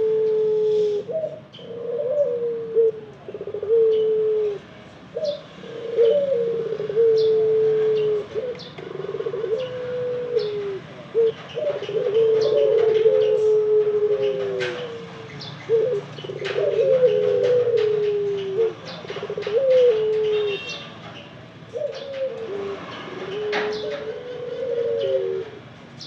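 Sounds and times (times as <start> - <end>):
dove cooing: 0.0 - 25.8.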